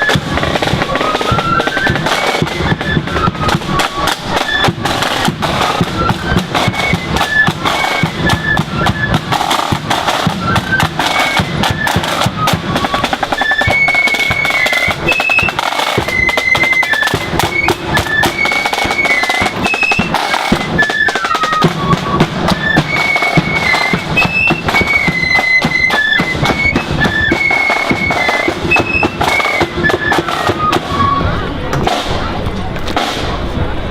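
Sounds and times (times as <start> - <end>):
flutes playing high melody: 0.0 - 31.6
side drum rolls: 0.0 - 33.9.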